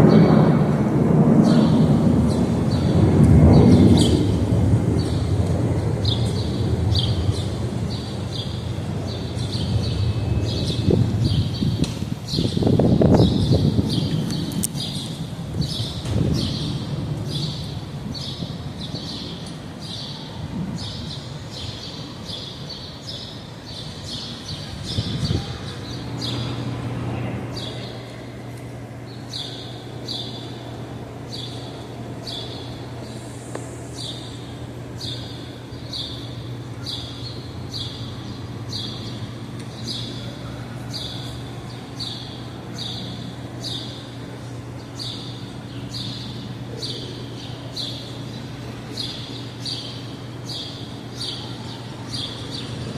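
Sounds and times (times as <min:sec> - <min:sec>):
low city rumble: 0:00.0 - 0:52.9
steady low hum: 0:00.0 - 0:52.9.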